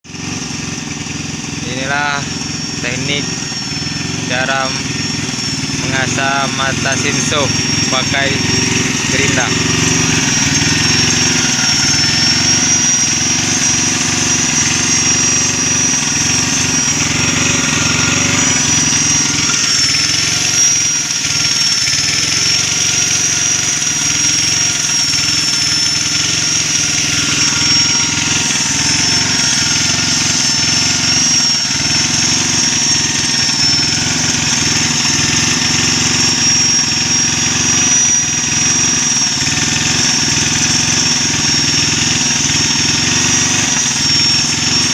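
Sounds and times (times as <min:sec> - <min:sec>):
grinder whining: 0:00.0 - 0:44.9.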